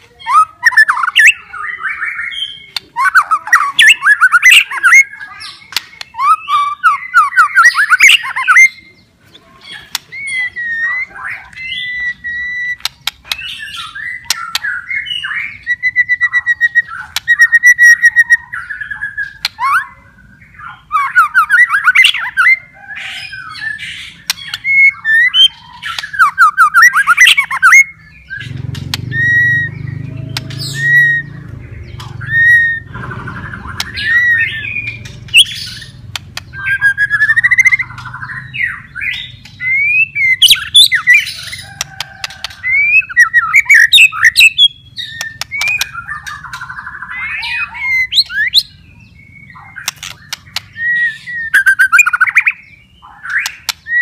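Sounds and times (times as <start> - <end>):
bird singing whistled notes: 0.2 - 9.1, 9.7 - 54.0.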